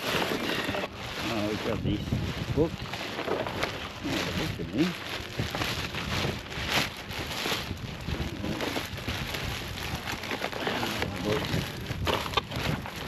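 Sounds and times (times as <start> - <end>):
household junk rustling and knocking: 0.0 - 13.0.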